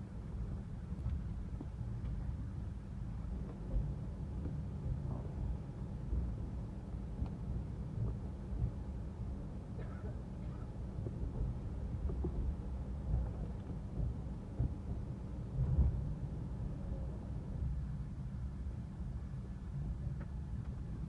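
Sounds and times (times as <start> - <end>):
train rumbling from on board: 0.0 - 21.0.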